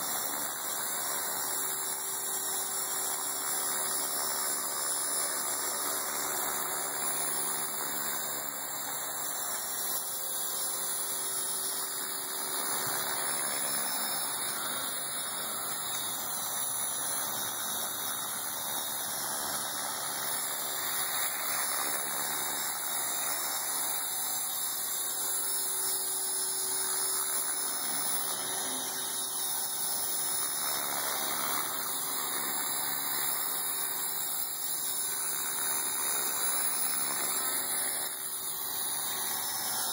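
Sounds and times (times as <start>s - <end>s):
rc helicopter whine: 0.0s - 39.9s.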